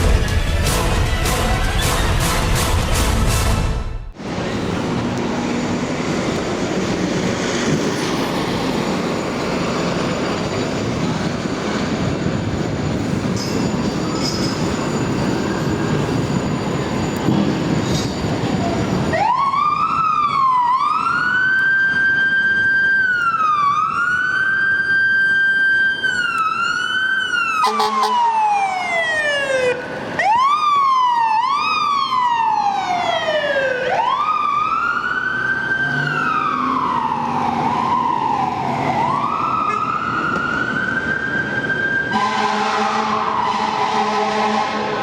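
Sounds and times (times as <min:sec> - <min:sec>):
rumbling street and engine noise: 0:00.0 - 0:45.0
fire engine siren wailing: 0:04.1 - 0:45.0.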